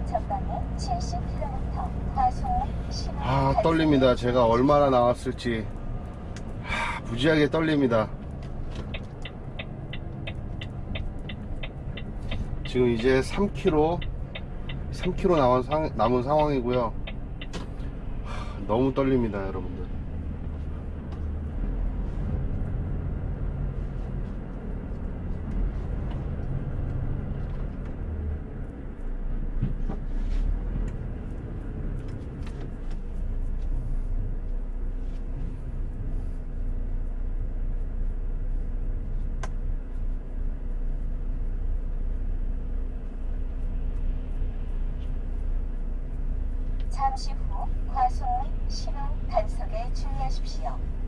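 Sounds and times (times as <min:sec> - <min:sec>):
truck diesel engine rumble: 0:00.0 - 0:51.0.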